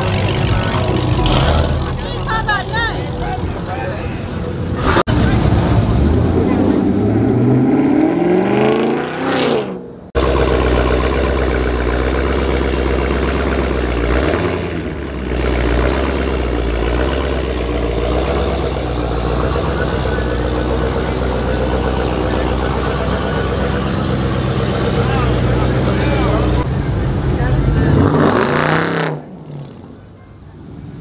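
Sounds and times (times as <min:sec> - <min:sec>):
car engine idling with deep rumble: 0:00.0 - 0:07.1, 0:10.1 - 0:28.1
passing car engine: 0:00.0 - 0:31.0.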